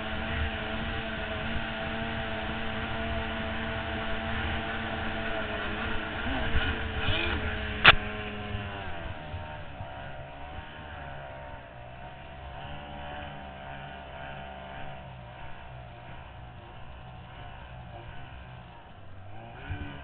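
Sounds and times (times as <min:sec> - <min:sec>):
racing boat engines running: 0:00.0 - 0:20.0.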